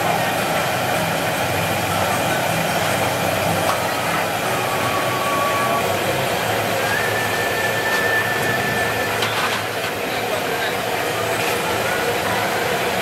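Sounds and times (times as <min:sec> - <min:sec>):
low hum of gas burners: 0:00.0 - 0:13.0.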